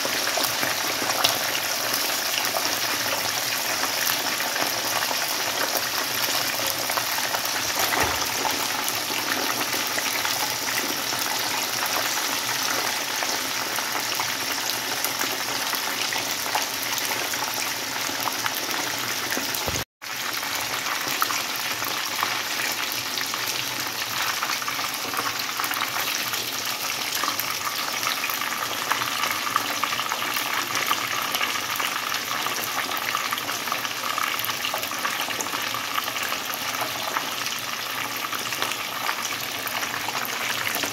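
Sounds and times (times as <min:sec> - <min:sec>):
fish deep-frying in oil: 0:00.0 - 0:40.9.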